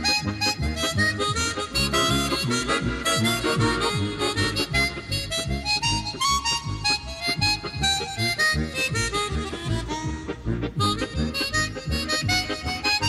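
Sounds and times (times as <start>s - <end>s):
reedy harmonica-like lead: 0.0s - 13.0s.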